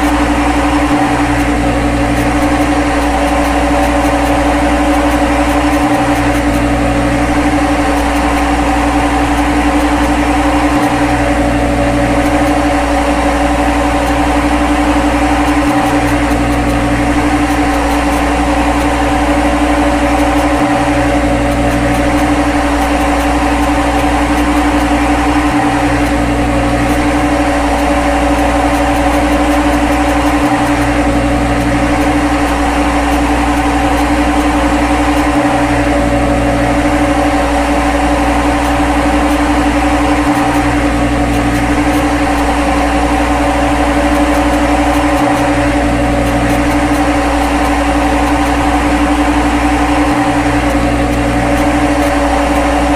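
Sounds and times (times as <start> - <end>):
low rumble: 0.0 - 52.9
steady tones: 0.0 - 52.9
synthetic machine hum: 0.0 - 52.9.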